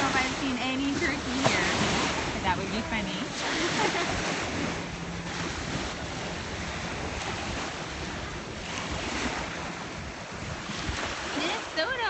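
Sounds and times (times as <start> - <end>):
small waves washing onto shore: 0.0 - 12.0
wind buffeting microphone: 0.0 - 12.0.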